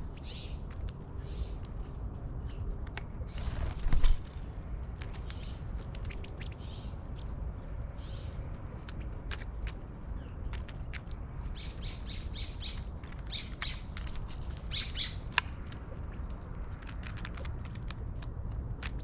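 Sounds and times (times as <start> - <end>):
outdoor background: 0.0 - 19.0.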